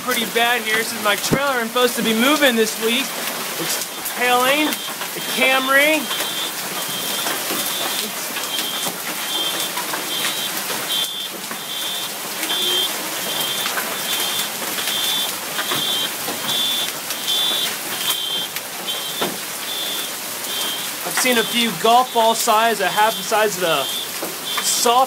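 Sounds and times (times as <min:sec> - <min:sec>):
hail and heavy rain: 0:00.0 - 0:25.0
high electronic beep: 0:03.9 - 0:22.6, 0:23.4 - 0:24.8.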